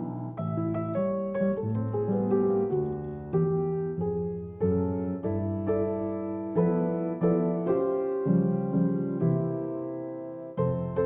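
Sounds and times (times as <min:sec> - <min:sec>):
calm piano music: 0:00.0 - 0:11.0.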